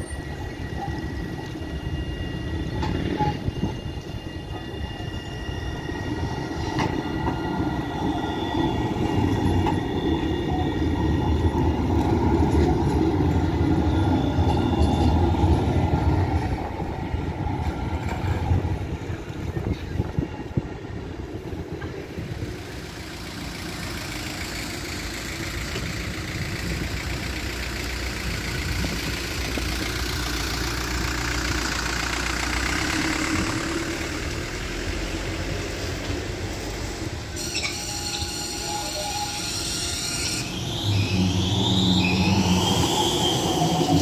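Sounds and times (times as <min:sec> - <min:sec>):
street noise with low rumble: 0:00.0 - 0:44.0
tram passing with electric whine: 0:00.0 - 0:44.0.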